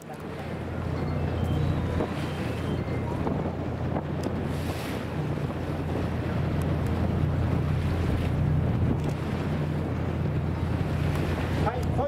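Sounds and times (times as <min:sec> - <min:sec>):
boat engine droning: 0:00.0 - 0:12.0
water against hull: 0:00.0 - 0:12.0
wind on microphone: 0:01.4 - 0:12.0.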